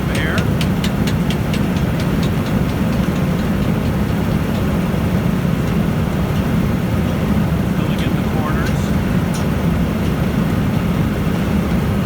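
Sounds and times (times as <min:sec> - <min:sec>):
machinery drone of motors and conveyors: 0:00.0 - 0:12.0.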